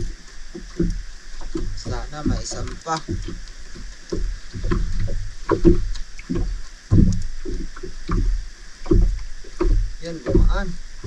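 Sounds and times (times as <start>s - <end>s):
knocks on boat: 0.0s - 11.0s
steady low rumble: 0.0s - 11.0s
water sloshing around boat: 0.0s - 11.0s.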